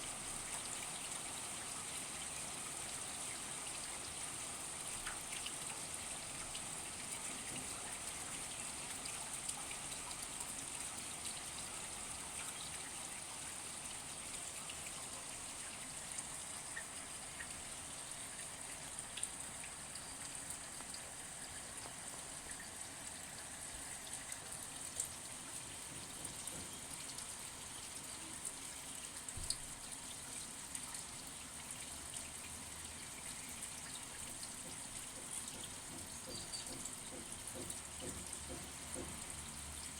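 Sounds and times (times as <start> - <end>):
sharp drip ticks: 3.2 - 39.9.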